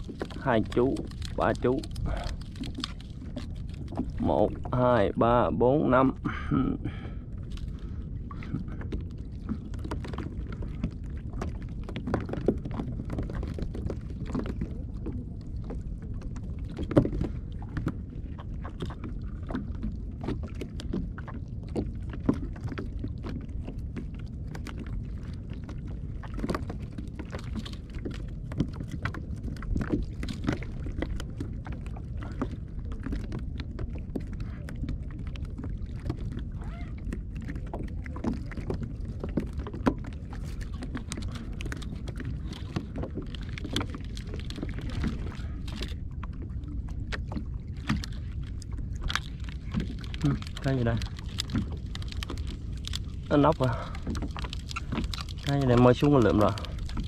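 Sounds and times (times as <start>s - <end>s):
wind and sea rumble: 0.0s - 57.0s.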